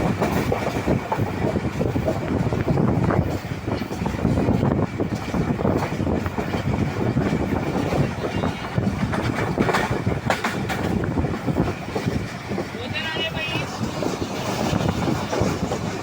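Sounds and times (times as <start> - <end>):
fast train rumbling and rattling: 0.0 - 16.0.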